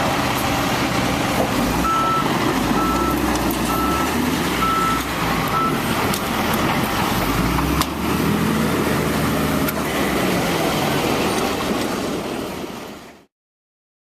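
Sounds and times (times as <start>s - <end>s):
truck engine running: 0.0s - 13.2s.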